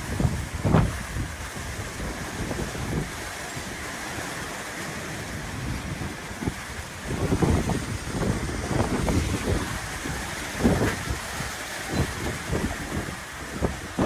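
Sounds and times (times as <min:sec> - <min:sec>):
gusty wind buffeting microphone: 0:00.0 - 0:03.9, 0:05.1 - 0:14.0.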